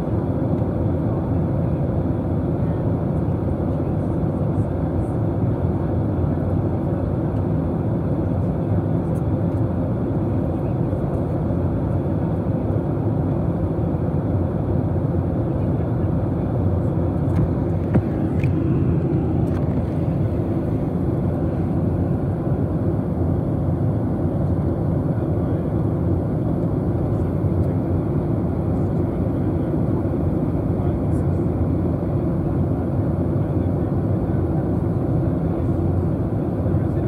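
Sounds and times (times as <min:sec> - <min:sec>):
airliner cabin engine roar: 0:00.0 - 0:37.0.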